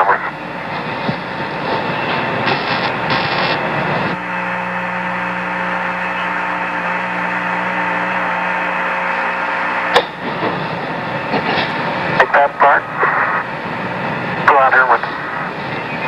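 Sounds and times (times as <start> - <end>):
hum of held tones: 0.0 - 16.0
radio static hiss: 0.0 - 16.0.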